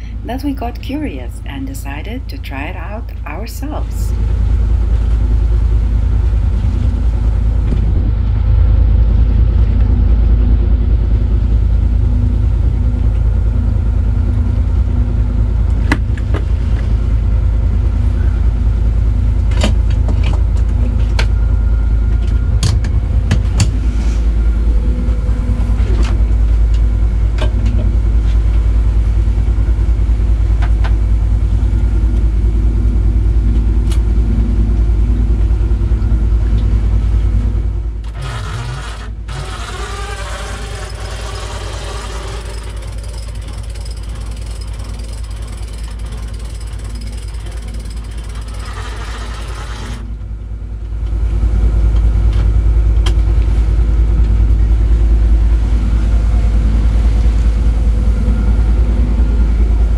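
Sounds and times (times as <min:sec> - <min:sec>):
boat diesel engine rumbling: 0:00.0 - 0:59.9.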